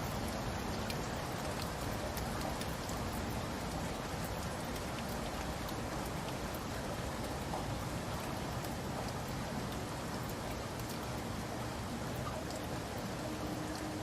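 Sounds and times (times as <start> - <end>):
raindrops ticking on surface: 0.0 - 14.0.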